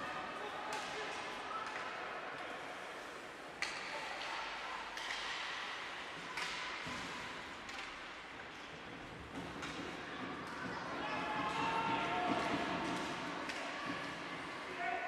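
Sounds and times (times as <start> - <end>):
hockey sticks clacking puck: 0.7 - 2.0, 3.5 - 14.7.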